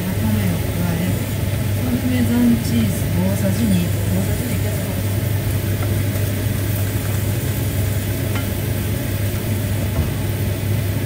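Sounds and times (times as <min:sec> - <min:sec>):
low kitchen hum: 0:00.0 - 0:11.0
onions sizzling in a pan: 0:00.0 - 0:11.0.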